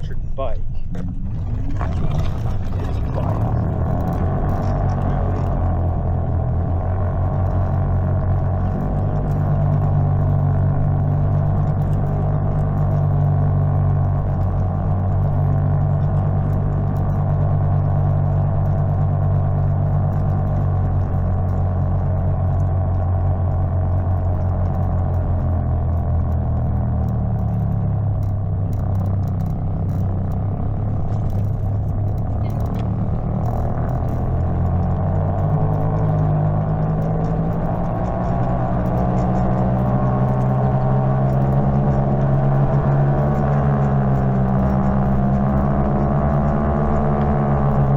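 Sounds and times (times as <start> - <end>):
bike rattling: 0.7 - 47.9
electric motor hum: 0.9 - 47.9.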